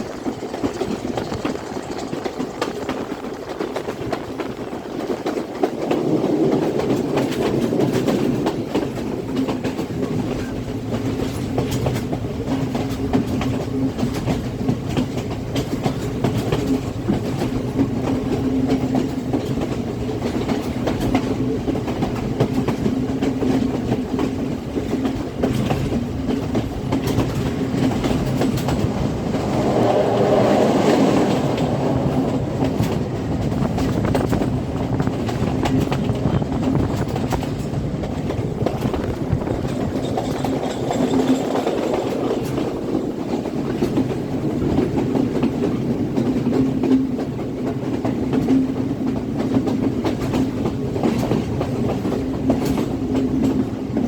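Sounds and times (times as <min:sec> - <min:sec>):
train rumbling along track: 0:00.0 - 0:54.0.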